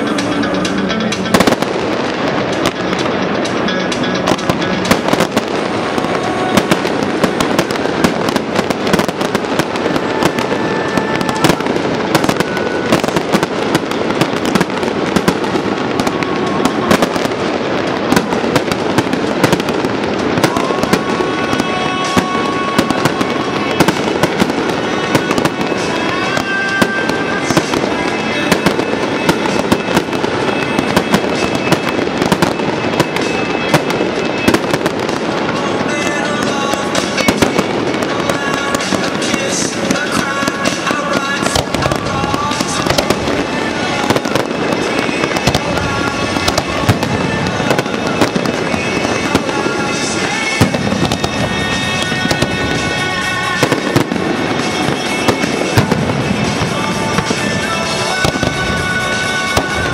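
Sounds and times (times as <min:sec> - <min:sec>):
fireworks bursting and crackling: 0:00.0 - 0:59.9
music playing: 0:00.0 - 0:59.9.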